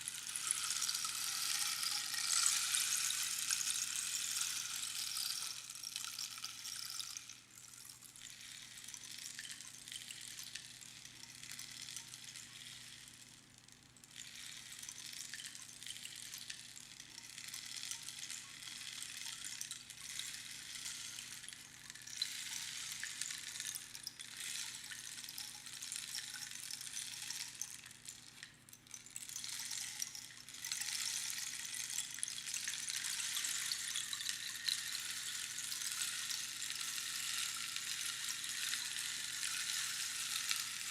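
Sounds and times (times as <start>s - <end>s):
rainstick pebbles trickling: 0.0s - 40.9s.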